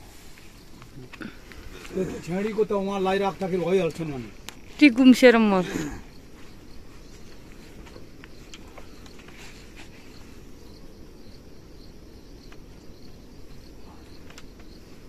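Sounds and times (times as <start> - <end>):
insect chirping faintly: 0.0 - 15.0.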